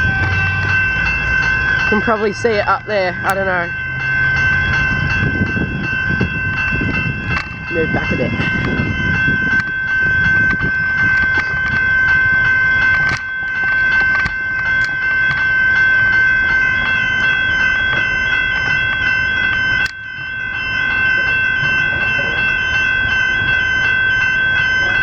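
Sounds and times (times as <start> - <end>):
crossing bells ringing: 0.0 - 25.0
passing train rumble: 0.0 - 25.0.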